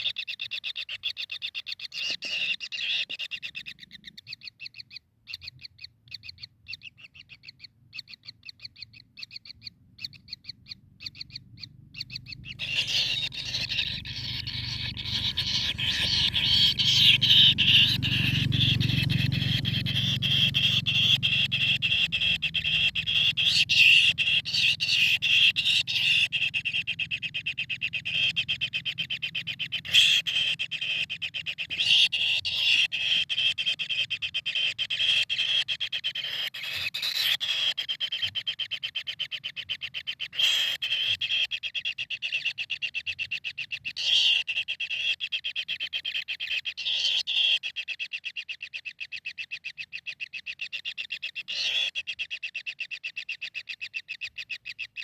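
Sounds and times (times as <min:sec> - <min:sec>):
kingfisher calling: 0:00.0 - 0:55.0.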